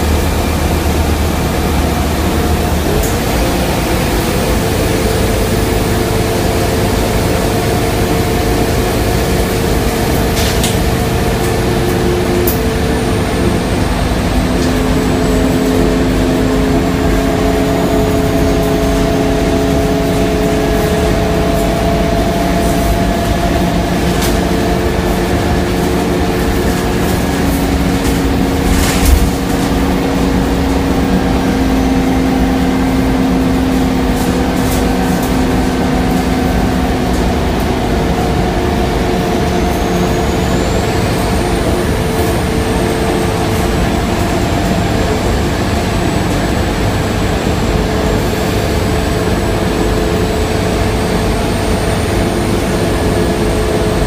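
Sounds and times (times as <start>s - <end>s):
bus engine drone with whine: 0.0s - 54.0s.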